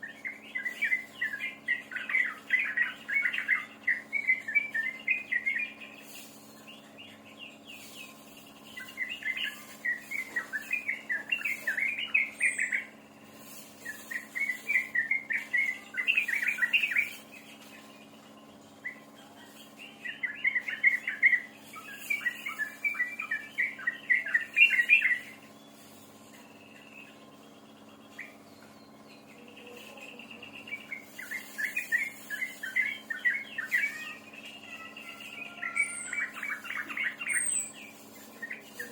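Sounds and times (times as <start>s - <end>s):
songbird singing: 0.0s - 38.9s
steady low hum: 0.0s - 38.9s.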